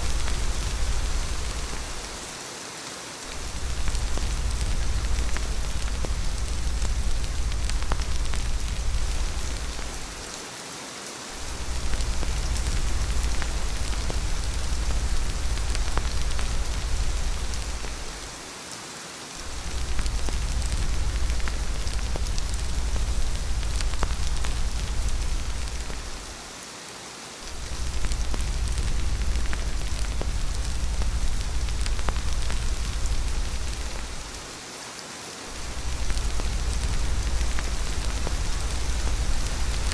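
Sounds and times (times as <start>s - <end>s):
deep low rumble: 0.0s - 2.2s, 3.4s - 10.2s, 11.4s - 18.4s, 19.4s - 26.4s, 27.5s - 34.4s, 35.6s - 39.9s
steady rain: 0.0s - 39.9s.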